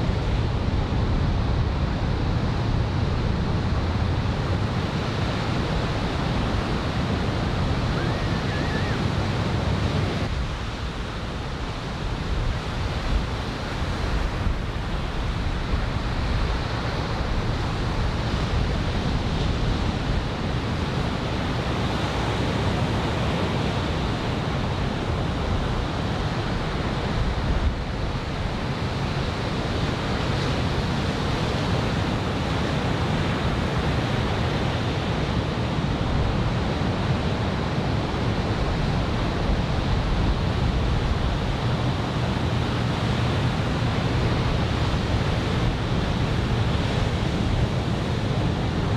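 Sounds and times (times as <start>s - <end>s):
wind rumbling on microphone: 0.0s - 48.9s.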